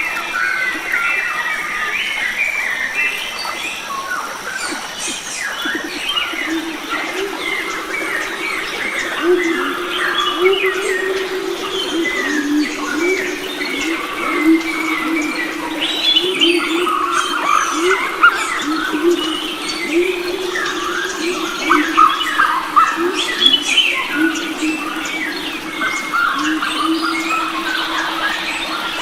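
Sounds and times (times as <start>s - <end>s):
forest birds chirping and singing: 0.0s - 29.0s
low wavering cooing: 4.6s - 29.0s
thin steady high tone: 4.6s - 29.0s.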